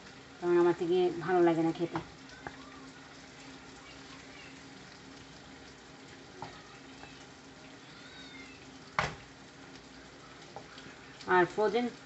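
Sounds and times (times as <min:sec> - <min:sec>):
prawns sizzling in a frying pan: 0:00.0 - 0:12.0.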